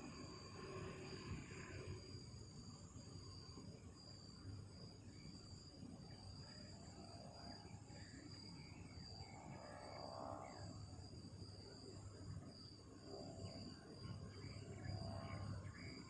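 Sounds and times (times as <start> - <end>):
night insects chirring: 0.0 - 16.0.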